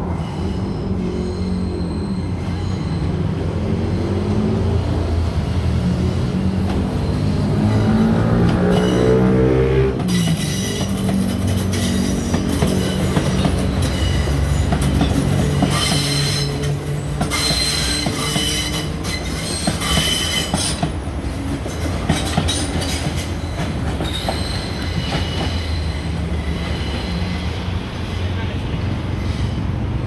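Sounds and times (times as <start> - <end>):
train wheels squealing: 0.0 - 4.8, 5.4 - 9.3, 10.1 - 28.5
train rumble: 0.0 - 30.0.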